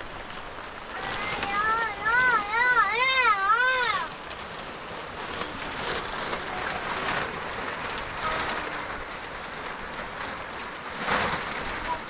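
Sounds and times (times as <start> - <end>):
rain on a tarpaulin roof: 0.0 - 12.0.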